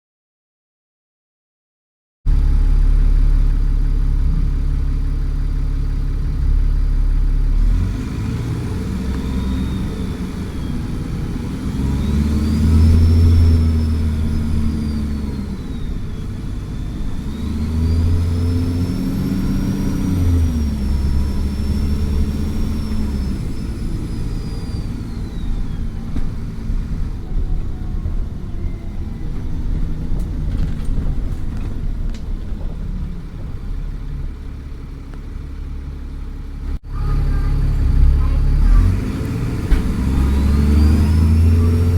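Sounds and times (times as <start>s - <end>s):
bus diesel engine revving: 2.3s - 41.9s.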